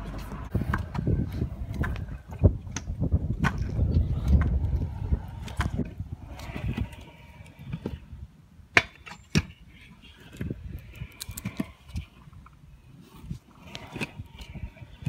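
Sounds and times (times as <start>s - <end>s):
scooter wheels rolling on concrete: 0.0s - 8.2s, 8.8s - 15.0s.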